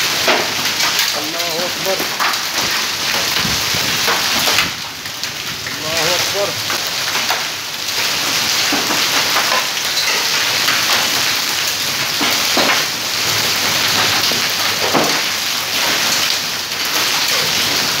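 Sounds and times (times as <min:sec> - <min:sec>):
hail and rain pelting stone: 0:00.0 - 0:18.0
hailstones clattering: 0:00.0 - 0:18.0.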